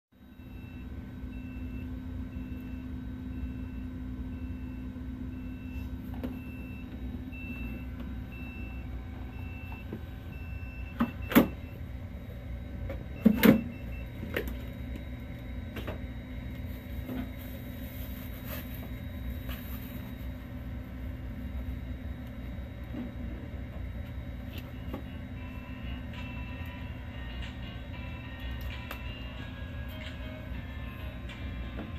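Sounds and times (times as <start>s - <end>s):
faint pulsing high tone: 0.2s - 31.9s
printer humming: 0.2s - 31.9s.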